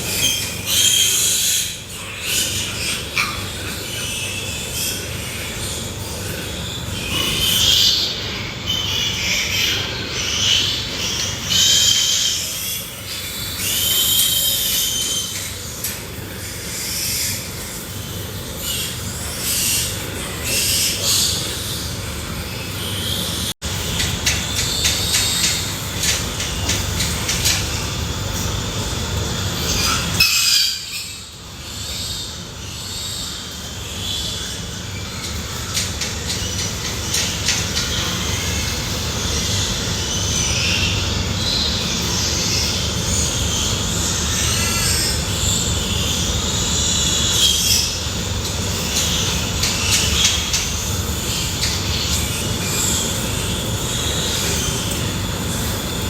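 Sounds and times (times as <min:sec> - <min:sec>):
constant noisy din: 0:00.0 - 0:56.0
pigs squealing: 0:00.0 - 0:56.0.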